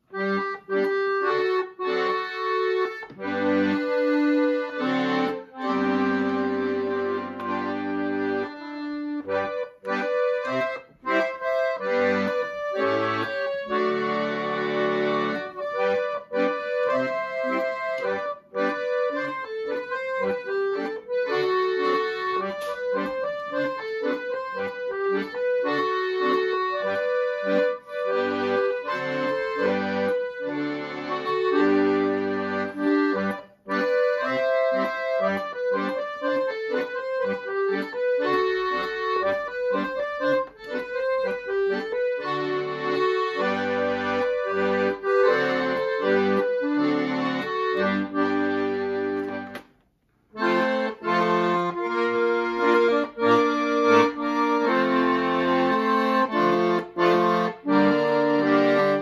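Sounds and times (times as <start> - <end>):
accordion playing a carol: 0.0 - 59.0.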